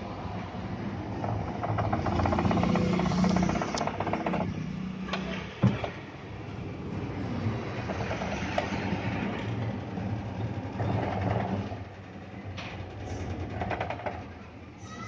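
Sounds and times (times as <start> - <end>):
washing machine humming and whirring: 0.0 - 15.0.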